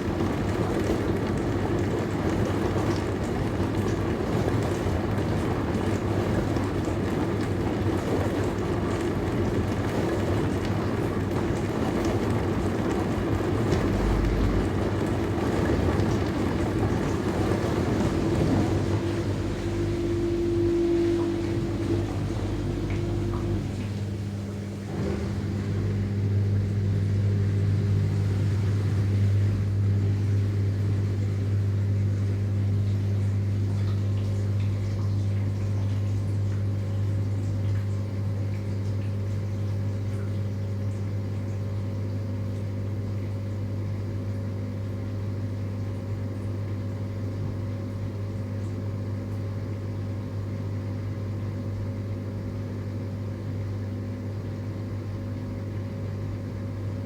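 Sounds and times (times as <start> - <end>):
dishwasher running: 0.0 - 57.0.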